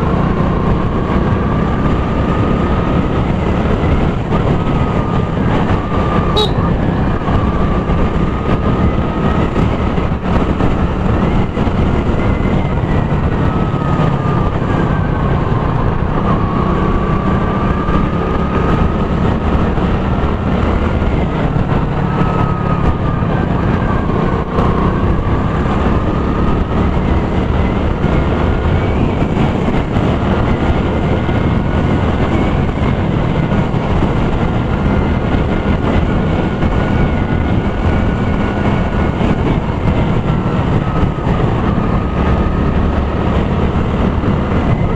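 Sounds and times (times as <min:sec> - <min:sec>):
motorcycle engine: 0:00.0 - 0:44.9
thin engine whine: 0:00.0 - 0:44.9.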